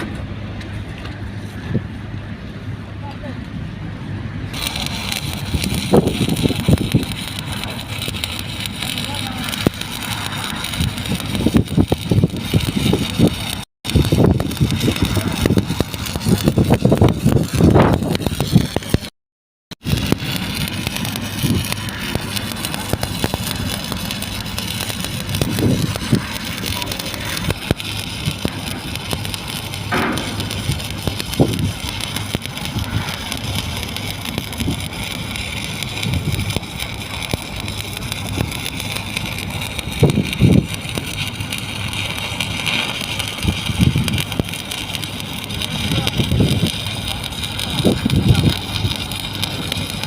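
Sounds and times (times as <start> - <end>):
welding arc crackling and hissing: 4.5 - 50.0.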